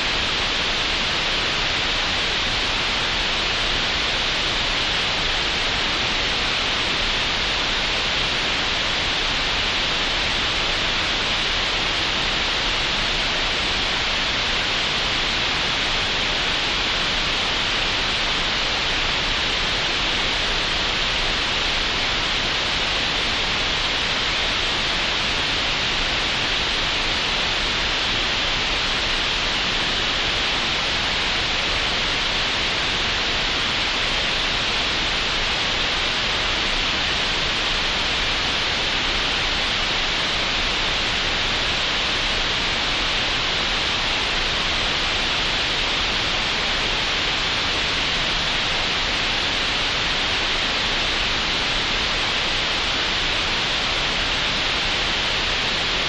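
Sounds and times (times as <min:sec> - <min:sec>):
steady green noise hiss: 0:00.0 - 0:56.0.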